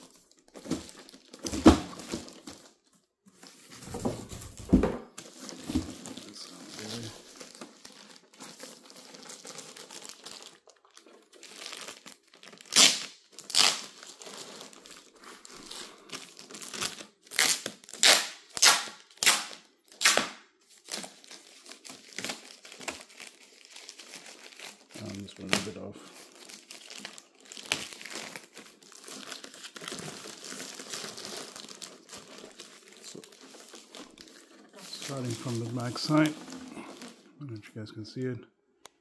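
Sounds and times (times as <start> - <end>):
plastic wrapping crinkling: 0.0 - 20.1, 20.7 - 37.4.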